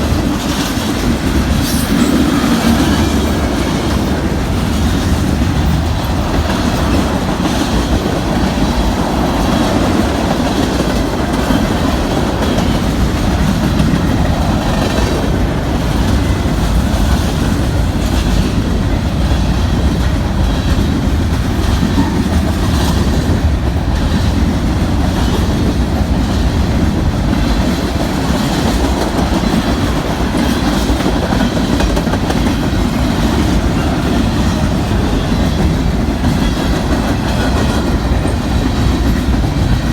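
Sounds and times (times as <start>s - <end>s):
freight train rumble: 0.0s - 39.9s
train wheels clacking on rails: 0.0s - 39.9s.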